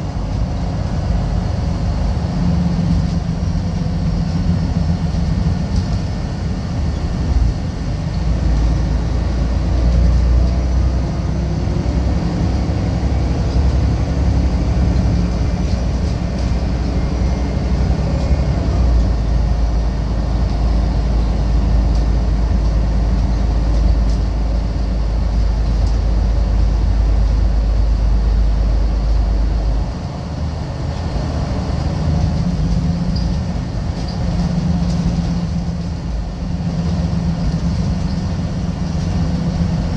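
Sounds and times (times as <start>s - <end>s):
bus engine drone: 0.0s - 39.9s
road and body noise: 0.0s - 39.9s.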